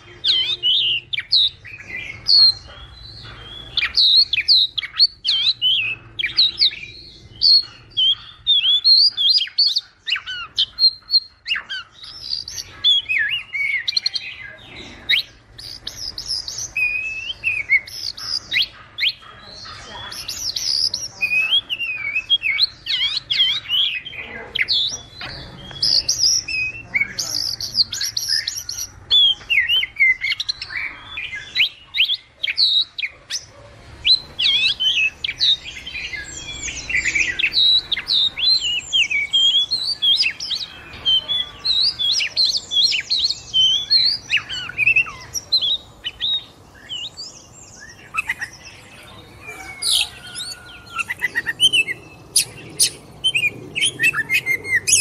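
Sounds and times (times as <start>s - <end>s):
songbirds chirping and whistling: 0.0s - 55.0s.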